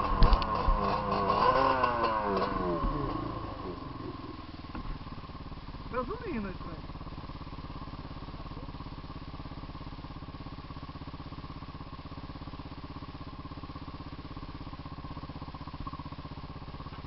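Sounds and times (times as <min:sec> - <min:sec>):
atv engine idling: 0:00.0 - 0:17.0.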